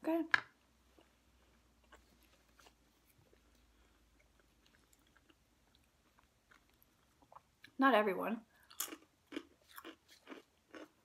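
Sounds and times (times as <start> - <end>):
faint chewing of food: 0.9 - 7.8, 8.5 - 11.0.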